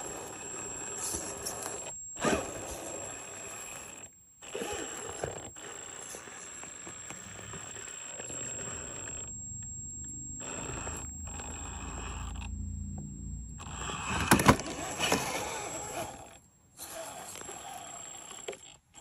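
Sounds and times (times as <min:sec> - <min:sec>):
rc car motor whine: 0:00.0 - 0:19.0.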